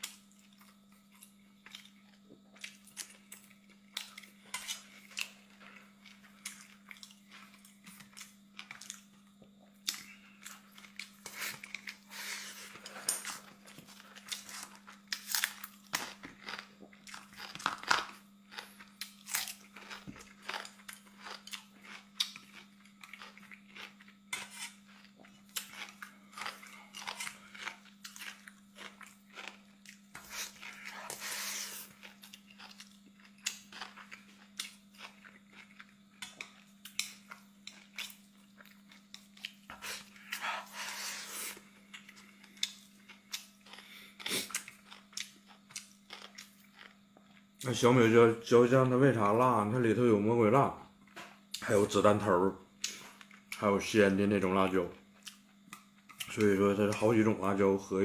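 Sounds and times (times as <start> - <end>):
crunchy chewing: 0.0 - 47.7
faint steady hum: 0.0 - 58.0.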